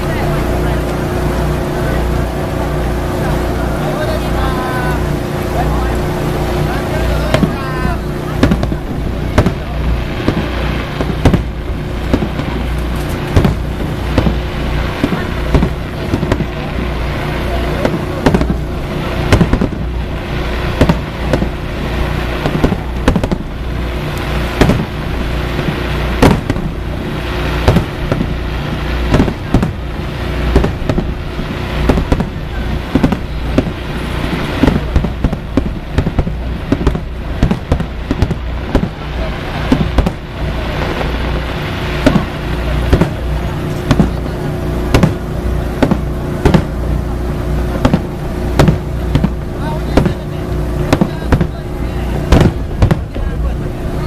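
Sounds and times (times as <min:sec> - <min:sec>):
echoing blasts: 0:00.0 - 0:54.0
fireworks booms and cracks: 0:00.0 - 0:54.0.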